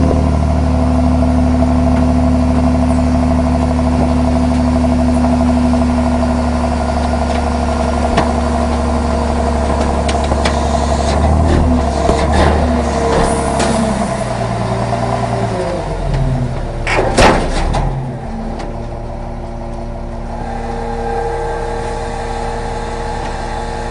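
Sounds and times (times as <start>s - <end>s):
compactor working: 0.0s - 23.9s
garbage truck engine running: 0.0s - 23.9s.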